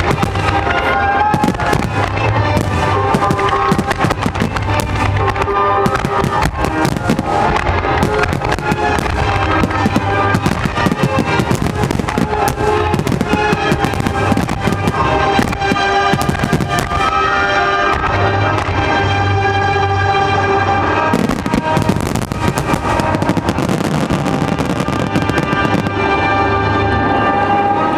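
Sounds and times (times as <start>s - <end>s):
fireworks bursts and crackling: 0.0s - 26.6s
loud music: 0.0s - 27.9s.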